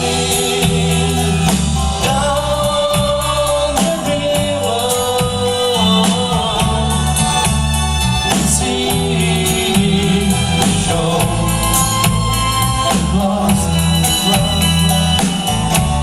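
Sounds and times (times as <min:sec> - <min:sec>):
folk band playing: 0:00.0 - 0:16.0
person singing: 0:00.0 - 0:16.0
steady percussion beat: 0:00.0 - 0:16.0.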